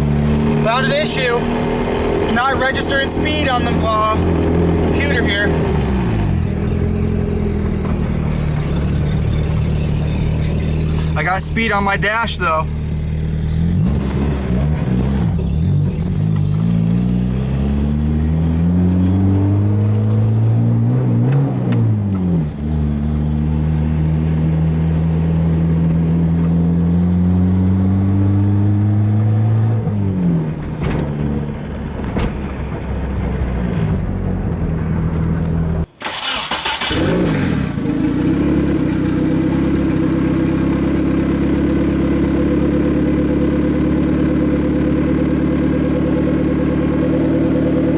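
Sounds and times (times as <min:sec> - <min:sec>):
turbocharged engine accelerating: 0:00.0 - 0:47.9.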